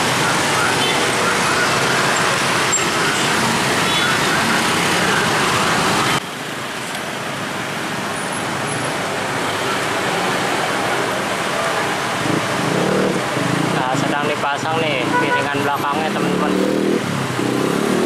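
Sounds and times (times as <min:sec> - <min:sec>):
motorcycle and scooter traffic: 0:00.0 - 0:18.0
street traffic: 0:00.0 - 0:18.0.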